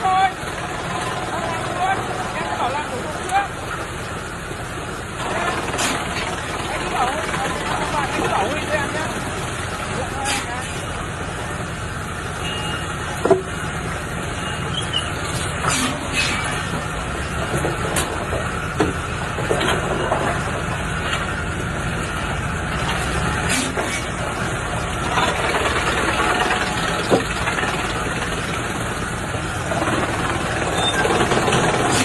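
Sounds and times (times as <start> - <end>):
wood chipper droning: 0.0 - 32.0.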